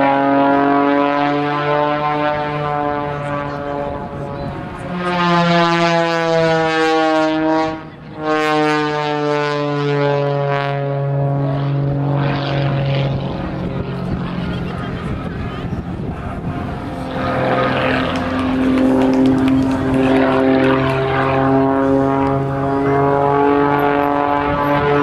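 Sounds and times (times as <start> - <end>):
biplane engine droning overhead: 0.0 - 25.0.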